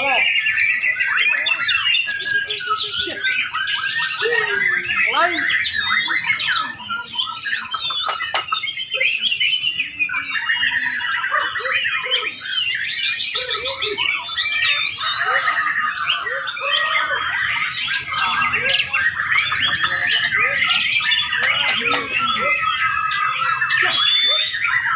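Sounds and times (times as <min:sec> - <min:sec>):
songbird singing whistles and trills: 0:00.0 - 0:24.9.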